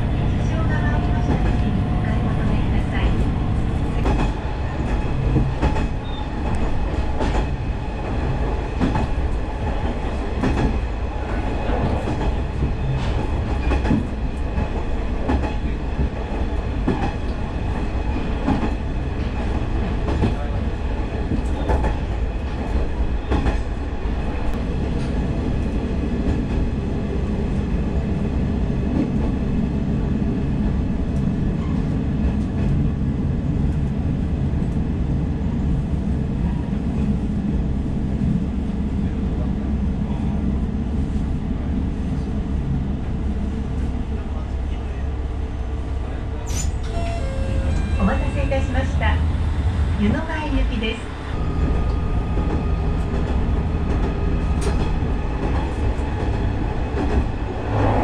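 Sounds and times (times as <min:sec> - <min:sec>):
railcar engine rumble: 0:00.0 - 0:58.0.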